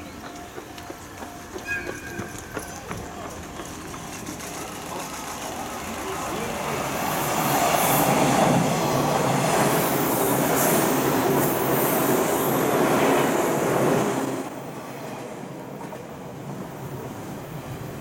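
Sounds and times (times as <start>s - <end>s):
train wheels rushing on rail: 0.0s - 18.0s.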